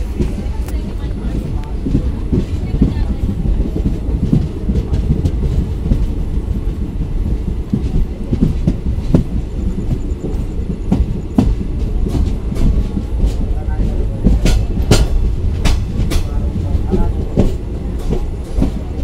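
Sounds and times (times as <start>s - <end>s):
clickety-clack knocks: 0.0s - 19.0s
train wheels rumbling on track: 0.0s - 19.0s.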